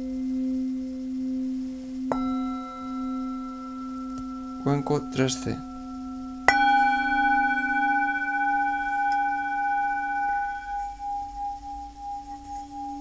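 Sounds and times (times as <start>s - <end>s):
singing bowl struck and ringing: 0.0s - 13.0s.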